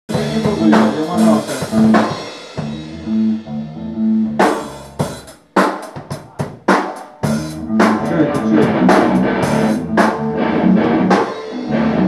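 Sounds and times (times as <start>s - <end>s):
drum strikes: 0.1s - 3.0s, 4.4s - 12.0s
low held guitar notes: 0.1s - 5.1s, 7.2s - 12.0s
rock band playing live: 0.1s - 12.0s.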